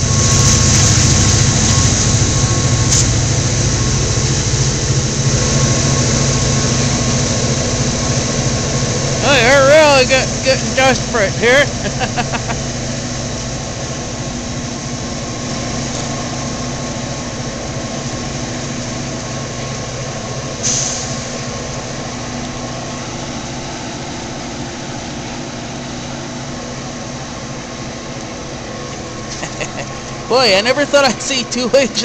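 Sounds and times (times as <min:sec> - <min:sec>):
diesel locomotive engine drone: 0:00.0 - 0:32.0.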